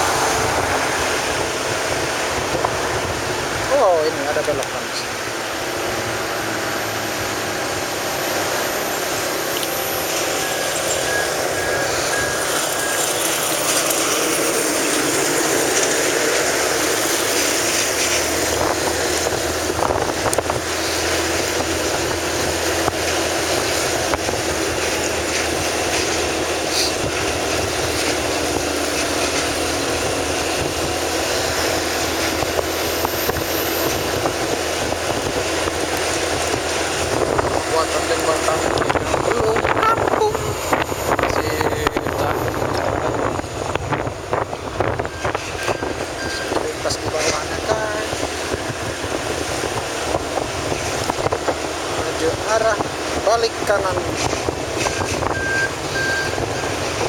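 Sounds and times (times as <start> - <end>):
low engine hum: 0.0 - 57.0
rushing wind: 0.0 - 57.0
vehicle road noise: 0.0 - 57.0.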